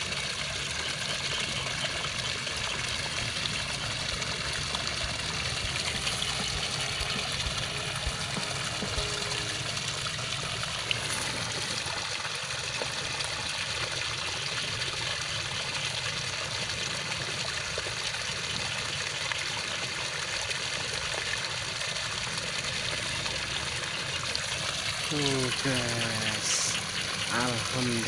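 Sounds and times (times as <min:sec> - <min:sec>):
water trickling: 0:00.0 - 0:28.0.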